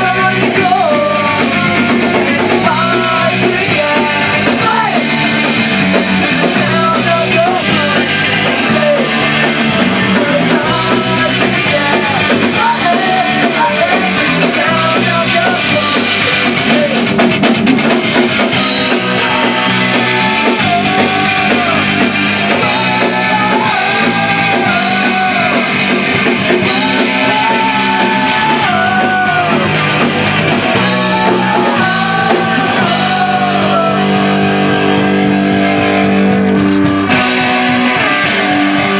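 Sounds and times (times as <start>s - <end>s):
person singing: 0.0s - 17.2s, 18.8s - 35.2s
punk rock band playing live: 0.0s - 38.9s.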